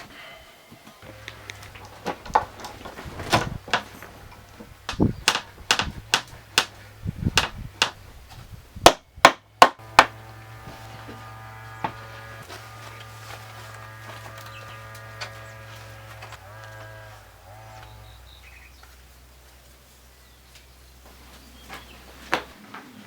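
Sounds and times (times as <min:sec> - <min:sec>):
steady hum: 0:01.0 - 0:22.2.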